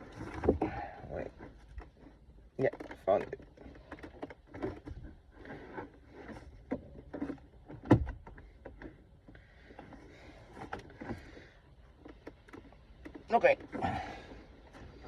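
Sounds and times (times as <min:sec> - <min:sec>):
rustling and scraping: 0:00.0 - 0:15.0.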